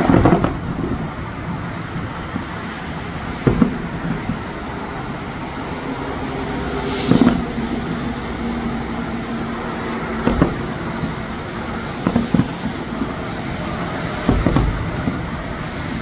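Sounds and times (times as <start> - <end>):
background rumble: 0.0 - 16.0
fireworks booming: 0.0 - 16.0.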